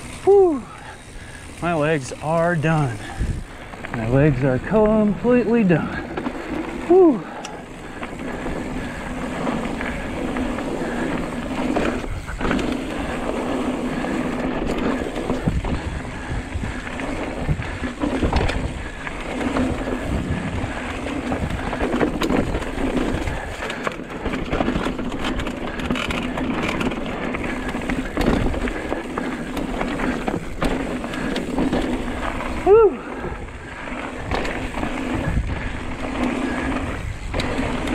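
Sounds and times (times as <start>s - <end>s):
bike rattling over bumps: 0.0s - 37.9s
bike tyres rolling on dirt: 0.0s - 37.9s.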